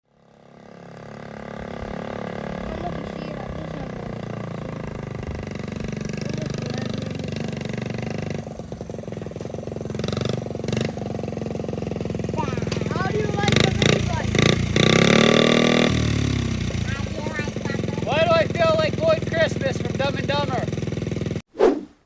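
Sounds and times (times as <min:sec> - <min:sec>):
small motorcycle engine running: 0:00.0 - 0:21.4.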